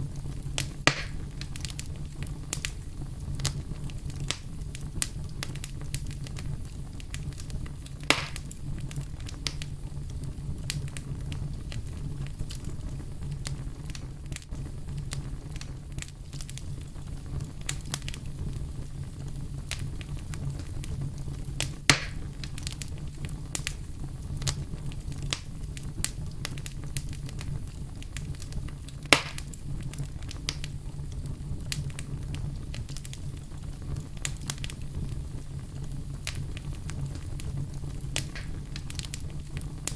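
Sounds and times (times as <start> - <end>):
fireplace fire crackling: 0.0 - 39.9
loud sharp pops of fire: 0.0 - 39.9.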